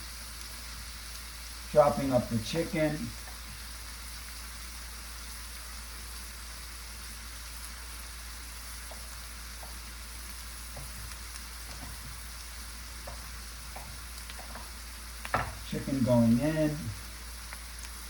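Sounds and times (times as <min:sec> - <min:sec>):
vegetables sizzling in frying pan: 0:00.0 - 0:18.0.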